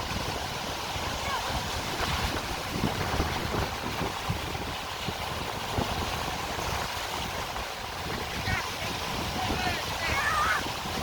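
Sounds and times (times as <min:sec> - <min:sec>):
sea surf rushing: 0:00.0 - 0:11.0
wind buffeting microphone: 0:00.0 - 0:11.0.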